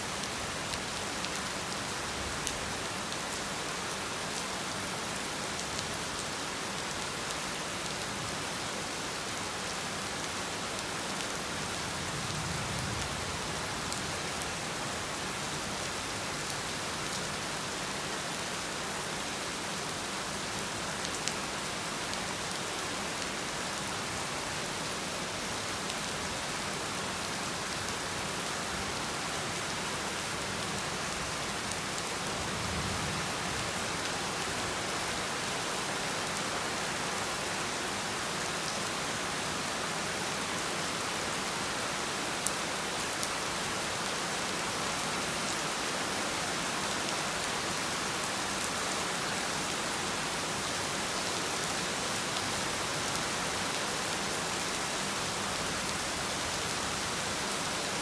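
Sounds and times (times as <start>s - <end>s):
heavy rain falling: 0.1s - 58.0s.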